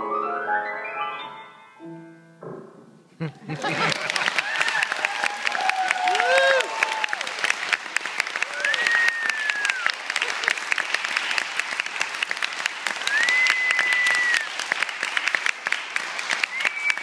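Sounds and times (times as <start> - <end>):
audience applauding: 3.2 - 17.0.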